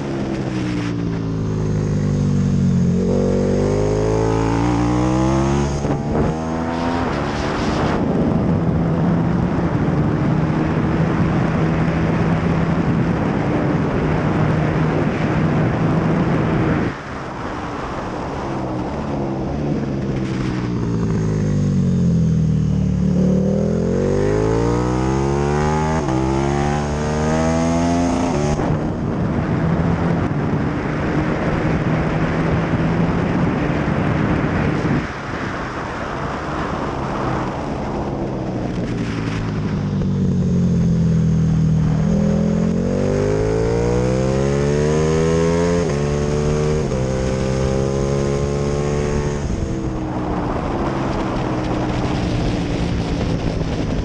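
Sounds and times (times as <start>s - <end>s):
motorcycle engine revving with upshifts: 0.0s - 17.5s, 19.4s - 54.0s.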